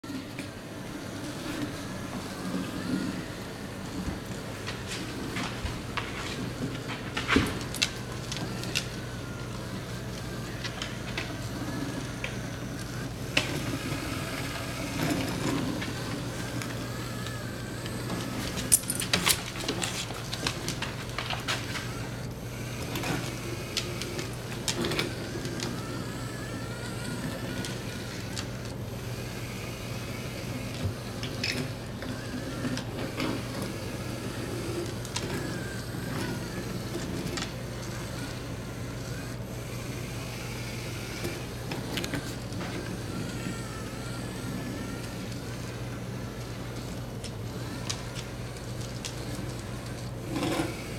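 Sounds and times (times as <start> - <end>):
steady hum: 0.0 - 50.9
robot gear motors whirring: 0.1 - 50.9.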